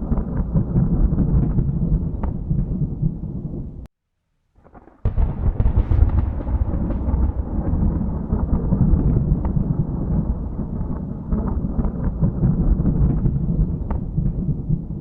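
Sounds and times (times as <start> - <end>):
thunder rumbling with crackles: 0.0 - 3.9, 4.6 - 15.0.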